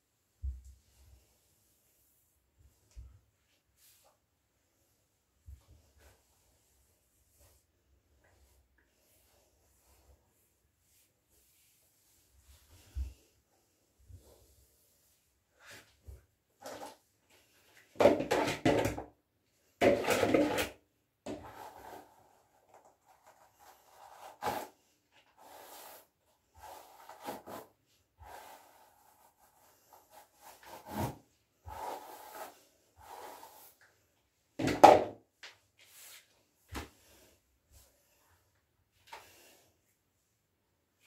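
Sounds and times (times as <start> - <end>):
rubbing and swishing on paper: 0.2 - 17.8, 21.4 - 34.4, 35.4 - 40.3.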